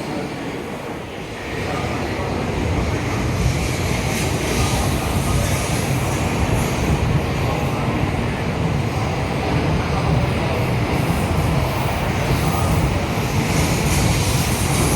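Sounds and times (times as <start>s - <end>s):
train running past platform: 0.0s - 14.9s.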